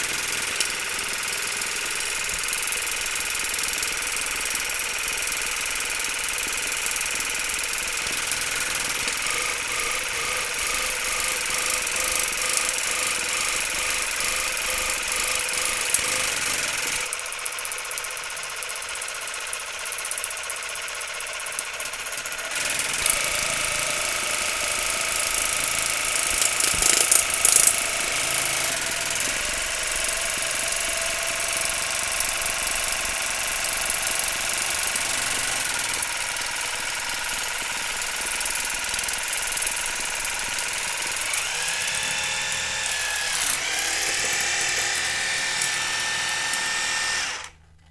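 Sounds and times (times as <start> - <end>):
water flosser pump buzzing: 0.0 - 47.8.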